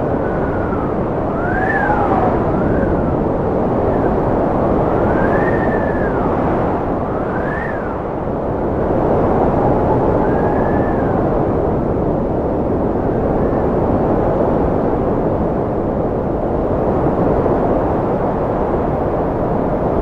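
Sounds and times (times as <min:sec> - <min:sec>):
strong wind rushing: 0:00.0 - 0:20.0
whistling wind tone: 0:00.0 - 0:20.0.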